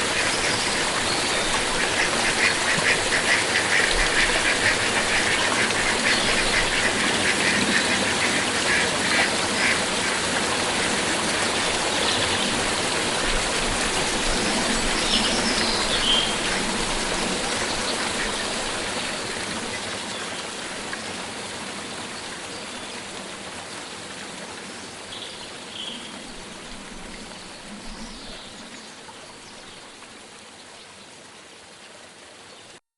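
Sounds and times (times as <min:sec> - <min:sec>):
stream water running: 0:00.0 - 0:32.8.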